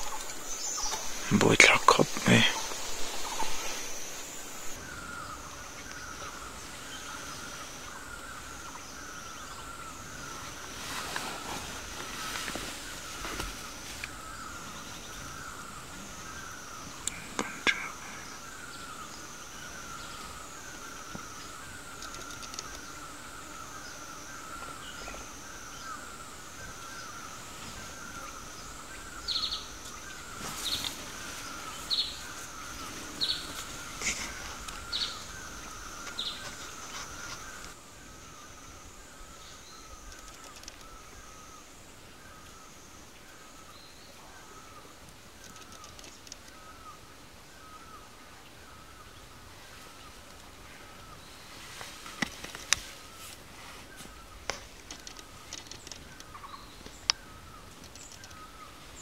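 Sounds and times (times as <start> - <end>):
low continuous chirring: 0.0 - 59.0.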